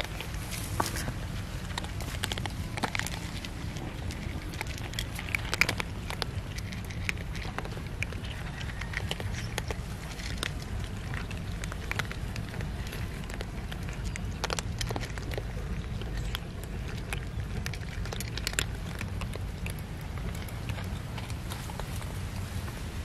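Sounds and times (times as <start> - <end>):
cats crunching dry kibble: 0.0 - 23.0
steady low rumble: 0.0 - 23.0.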